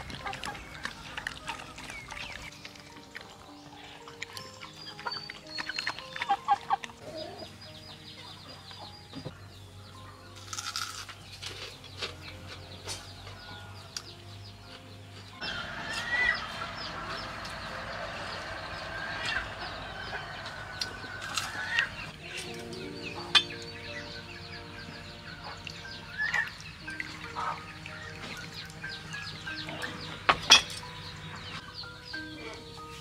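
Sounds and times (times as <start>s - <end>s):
chickens clucking: 0.0s - 10.0s, 11.4s - 33.0s.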